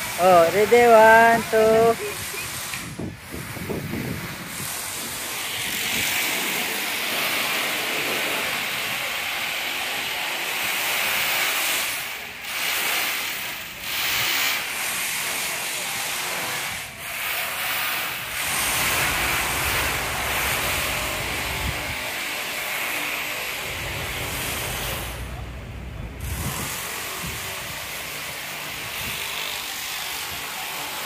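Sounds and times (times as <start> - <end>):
fountain water splashing: 4.4 - 31.0.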